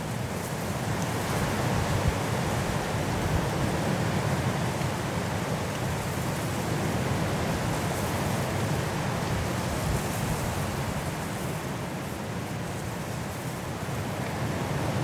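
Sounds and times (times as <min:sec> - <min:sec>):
strong wind through trees: 0:00.0 - 0:15.0.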